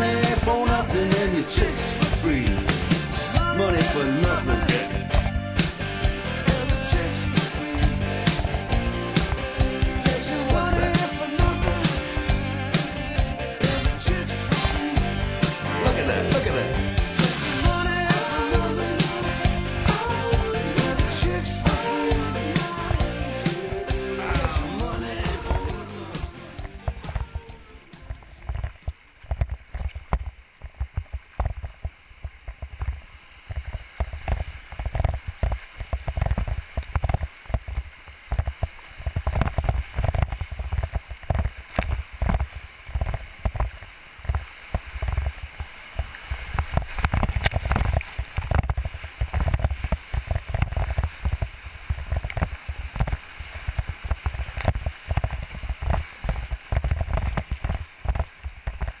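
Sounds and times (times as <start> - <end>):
water thumping on boat: 0.0 - 5.8, 6.5 - 13.0, 21.0 - 59.0
whitewater rushing and splashing: 0.0 - 59.0.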